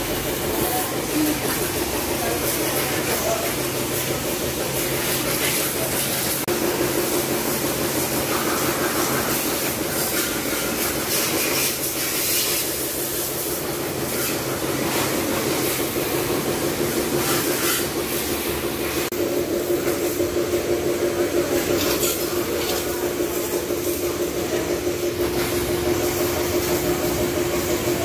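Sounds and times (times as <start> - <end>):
pressure washer pump hum: 0.0 - 28.0
water jet hissing: 0.0 - 28.0.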